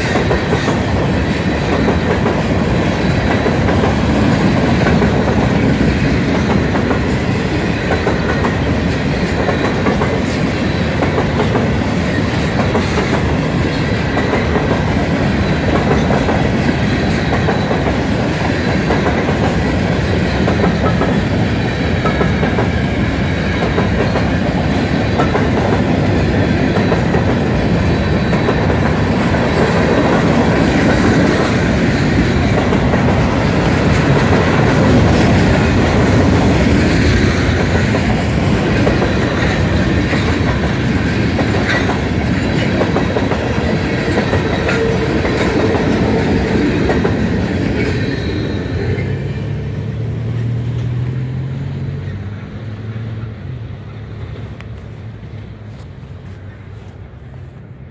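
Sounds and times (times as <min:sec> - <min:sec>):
freight train rumbling and rattling: 0:00.0 - 0:57.9.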